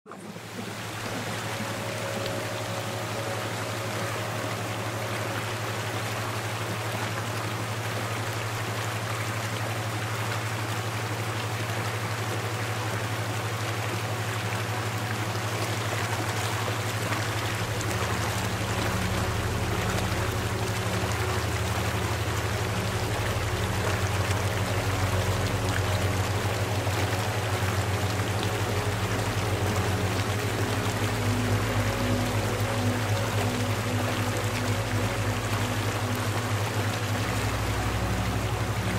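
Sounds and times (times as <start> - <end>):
deep soft sustained tones: 0.1 - 38.9
low hum: 0.1 - 38.9
rushing water: 0.1 - 38.9.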